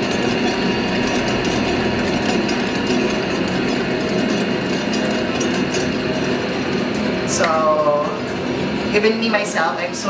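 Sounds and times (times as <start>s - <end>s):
dough mixer motor running: 0.0s - 10.0s.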